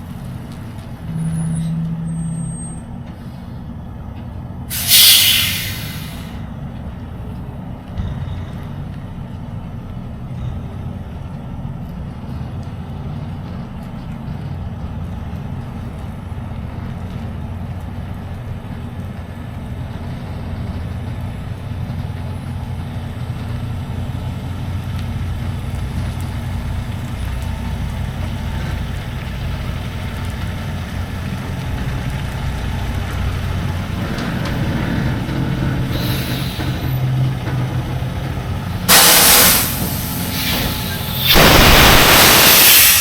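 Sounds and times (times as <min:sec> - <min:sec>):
road noise: 0:00.0 - 0:43.0
truck engine rumbling: 0:00.0 - 0:43.0.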